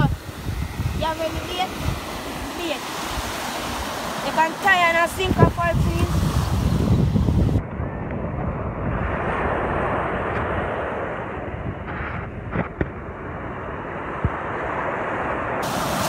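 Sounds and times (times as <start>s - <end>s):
surf washing on shore: 0.0s - 7.6s, 8.5s - 16.0s
wind buffeting microphone: 0.0s - 16.0s.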